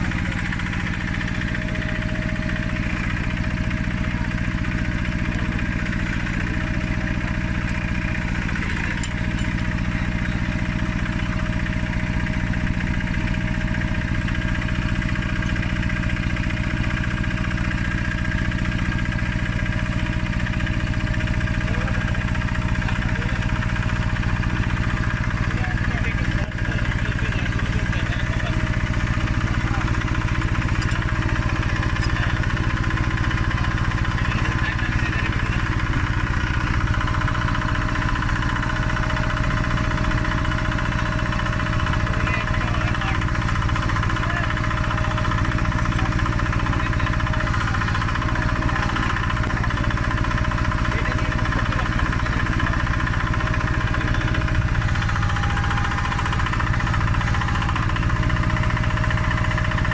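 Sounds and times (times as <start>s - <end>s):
drilling rig engine droning: 0.0s - 59.9s.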